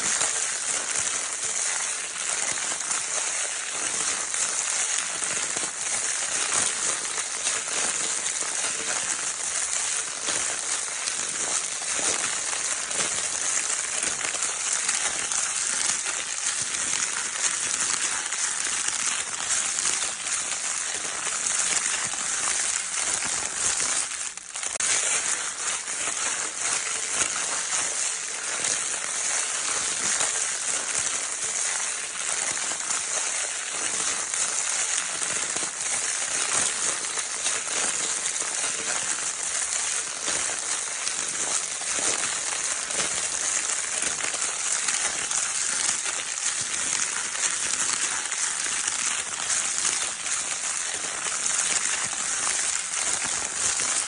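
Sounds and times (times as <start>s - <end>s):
crinkle paper crackling: 0.0s - 54.0s.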